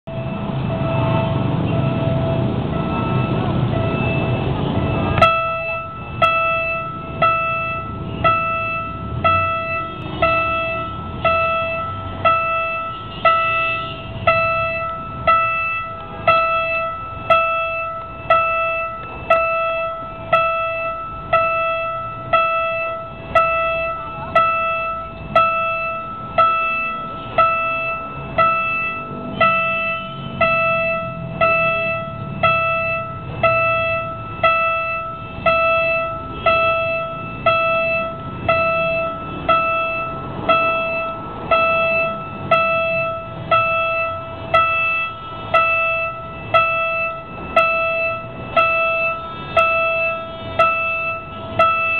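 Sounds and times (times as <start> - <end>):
railroad crossing bell ringing: 0.1 - 51.9.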